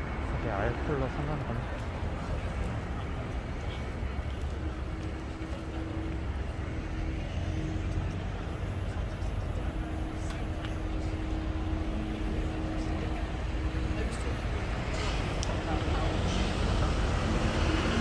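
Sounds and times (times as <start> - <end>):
city street traffic rumbling: 0.0 - 18.0.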